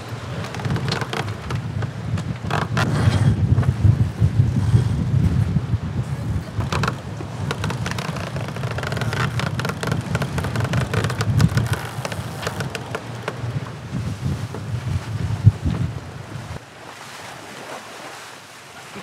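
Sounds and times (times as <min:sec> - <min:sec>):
wind on microphone: 0:00.0 - 0:16.6
water rushing past hull: 0:00.0 - 0:19.0.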